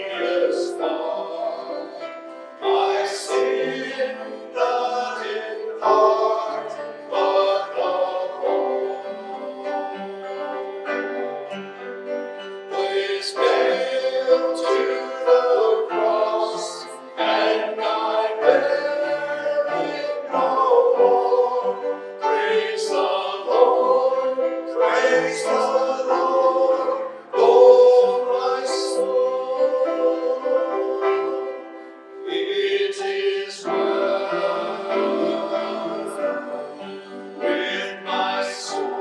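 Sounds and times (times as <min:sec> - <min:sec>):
person singing worship song: 0:00.0 - 0:11.6, 0:12.7 - 0:39.0
instrumental accompaniment: 0:00.0 - 0:39.0.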